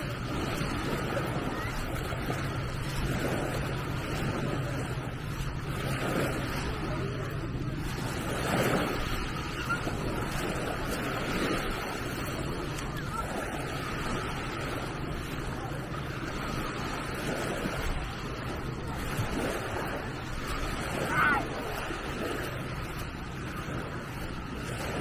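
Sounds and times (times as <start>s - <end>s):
faint voices: 0.0s - 25.0s
waves washing onto sandy beach: 0.0s - 25.0s.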